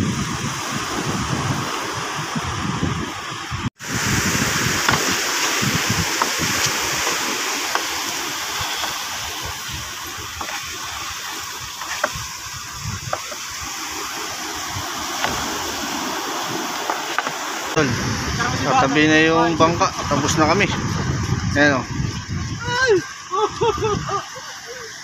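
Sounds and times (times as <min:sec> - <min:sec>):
wind and surf rushing: 0:00.0 - 0:25.0
wind buffeting microphone: 0:00.0 - 0:25.0.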